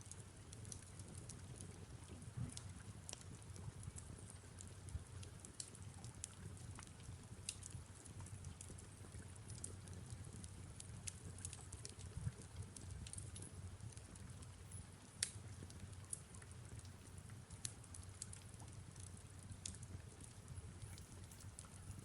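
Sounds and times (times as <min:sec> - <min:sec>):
soft rain: 0:00.0 - 0:22.0
fireplace crackling and popping: 0:00.1 - 0:22.0
low steady rumble: 0:01.5 - 0:22.0.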